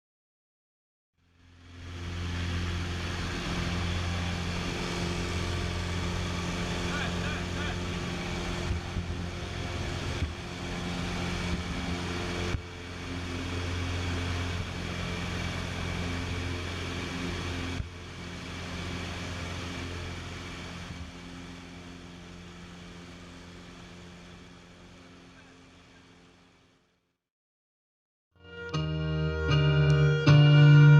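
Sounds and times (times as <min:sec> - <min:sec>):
engine humming: 0:01.2 - 0:26.6, 0:28.6 - 0:30.9.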